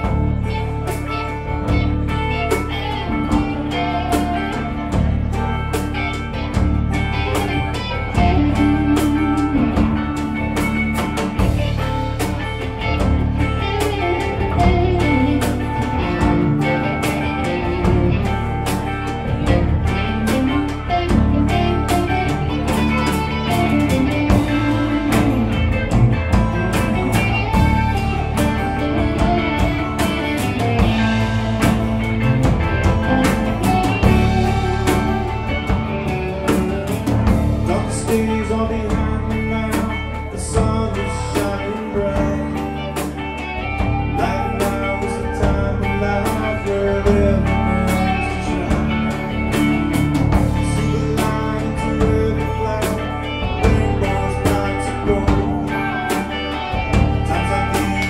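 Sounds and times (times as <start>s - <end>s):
live rock band playing: 0.0s - 58.0s
steady drum beat: 0.0s - 58.0s.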